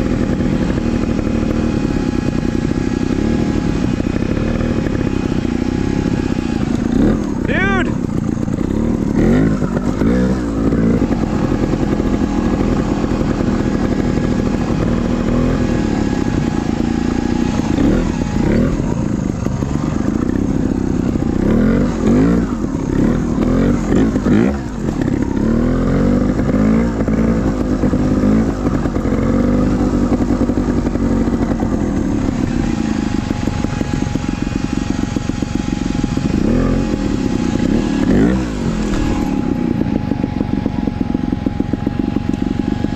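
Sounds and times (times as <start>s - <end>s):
dirt bike engine throttle blips: 0.0s - 42.9s.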